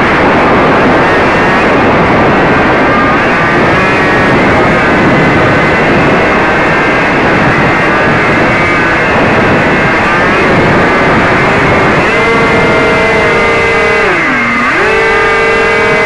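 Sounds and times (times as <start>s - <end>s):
model airplane motor whining: 0.0s - 16.0s
wind rushing over microphone: 0.0s - 16.0s.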